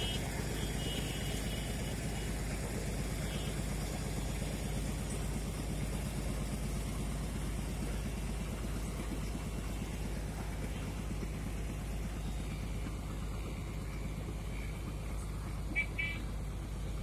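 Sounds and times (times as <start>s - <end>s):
crane engine running: 0.0s - 17.0s.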